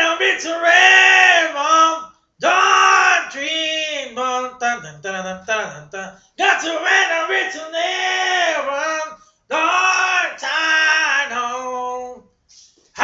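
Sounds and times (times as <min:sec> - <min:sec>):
man singing unaccompanied: 0:00.0 - 0:12.2.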